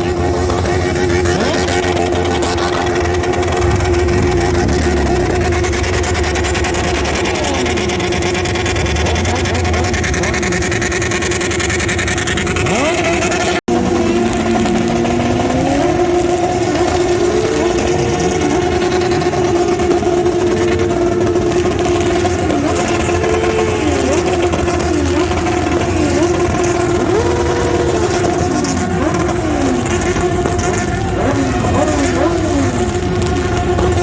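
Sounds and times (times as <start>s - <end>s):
motorcycle engine at steady pitch: 0.0s - 34.0s
motorcycle engines revving: 0.0s - 34.0s.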